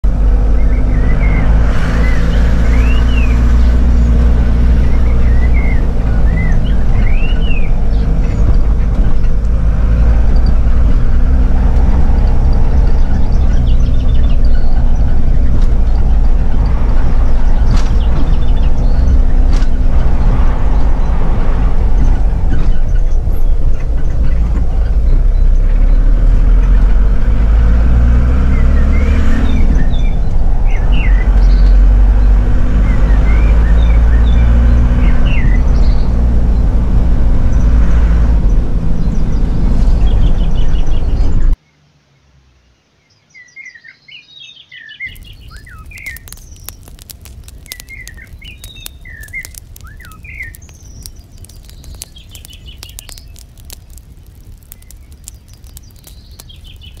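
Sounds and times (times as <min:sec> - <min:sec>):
birds chirping: 0:00.0 - 0:27.4, 0:28.0 - 0:36.8, 0:37.4 - 0:57.0
engine low rumble: 0:00.0 - 0:41.6, 0:45.1 - 0:57.0.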